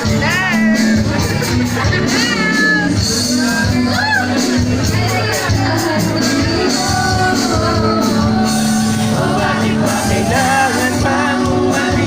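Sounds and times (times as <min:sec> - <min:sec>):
bass: 0:00.0 - 0:12.0
drum beat: 0:00.0 - 0:12.0
singer with live band: 0:00.0 - 0:12.0.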